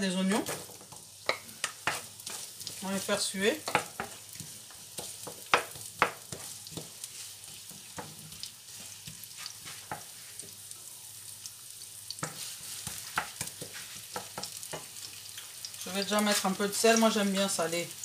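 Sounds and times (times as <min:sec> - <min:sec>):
onions sizzling in oil: 0:00.0 - 0:18.0
wooden spoon scraping a pan: 0:00.2 - 0:10.6, 0:12.2 - 0:15.0, 0:15.8 - 0:17.6.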